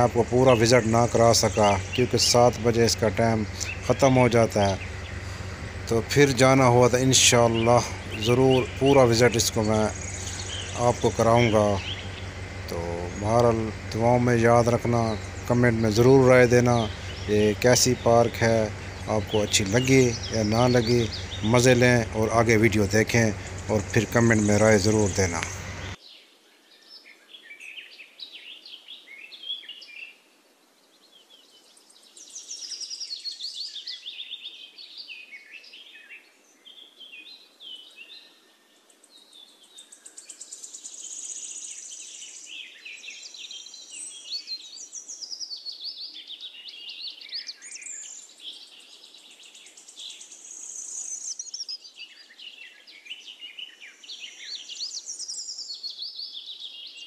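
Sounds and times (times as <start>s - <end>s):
small birds chirping chorus: 0.0s - 57.0s.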